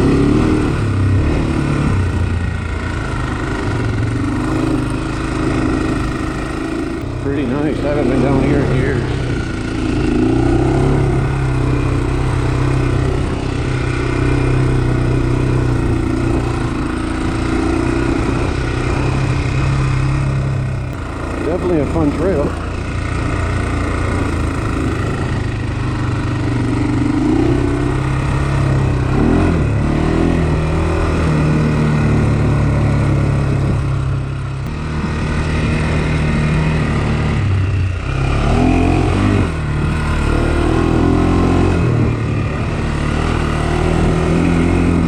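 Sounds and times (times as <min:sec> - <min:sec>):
quad engine running: 0:00.0 - 0:45.0.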